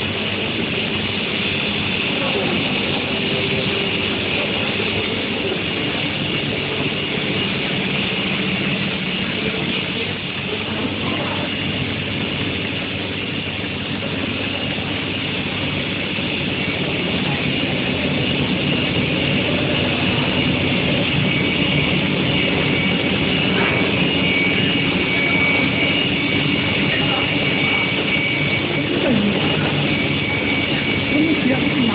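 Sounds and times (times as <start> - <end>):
steady machine noise: 0.0 - 31.9
thin high whine: 0.0 - 31.9.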